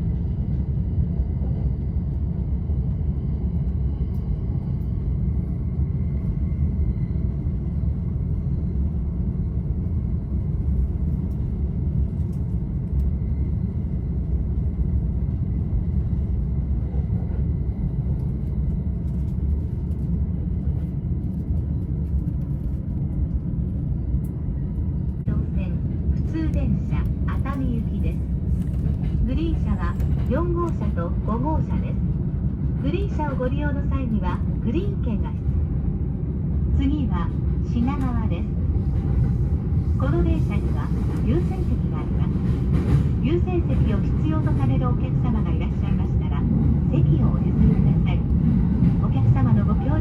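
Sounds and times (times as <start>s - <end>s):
train wheels rumbling on rail: 0.0s - 50.0s.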